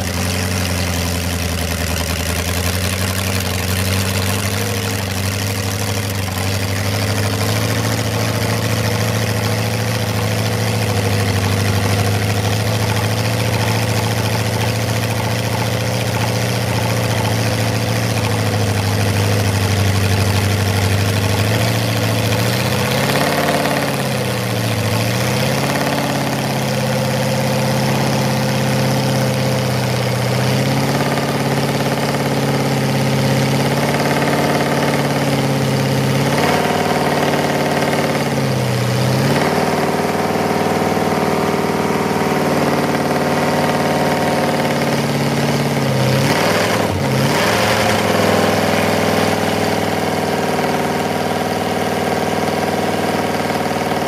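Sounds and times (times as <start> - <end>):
racing engine idling and revving: 0.0 - 54.0.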